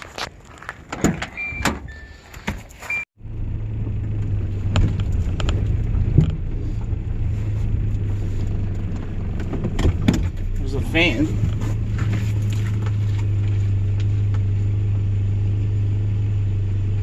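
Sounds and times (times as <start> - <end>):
vehicle engine droning: 1.4 - 17.0.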